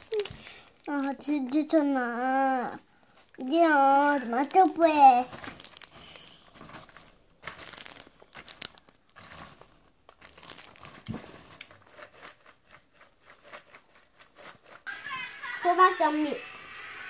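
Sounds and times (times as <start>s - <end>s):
popcorn rustling and crackling: 0.0s - 17.0s.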